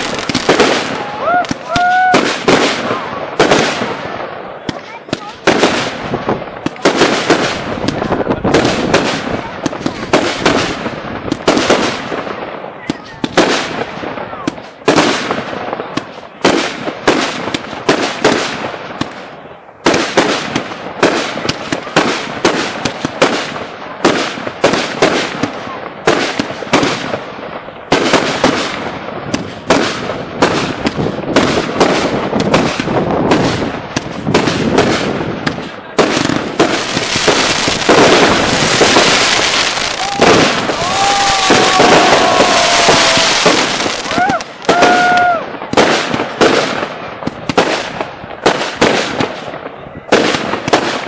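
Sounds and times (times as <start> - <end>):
firework crackling: 0.0 - 51.0
fireworks bursting: 0.0 - 51.0.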